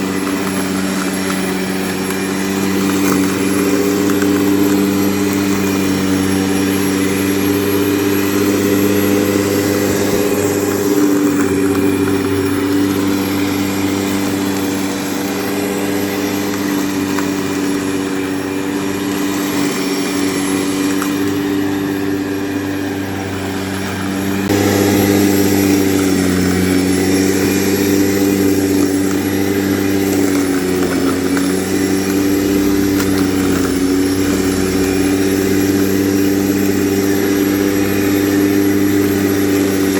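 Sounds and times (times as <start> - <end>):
electric lawn mower humming: 0.0 - 39.9.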